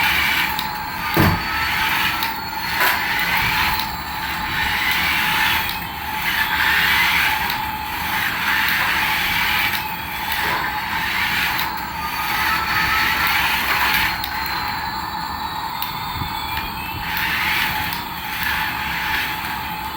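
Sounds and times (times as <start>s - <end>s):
toy motor and gears whirring: 0.0s - 19.9s.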